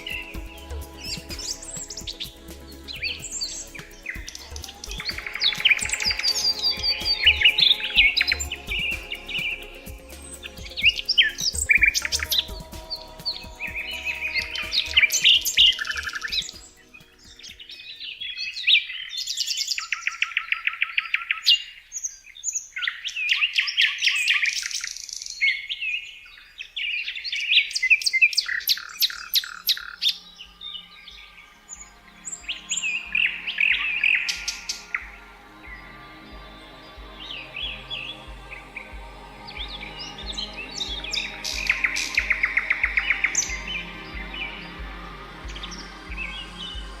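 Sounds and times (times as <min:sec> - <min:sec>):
faint soft background music: 0:00.0 - 0:21.7, 0:27.4 - 0:47.0
songbirds singing and chirping: 0:00.0 - 0:47.0.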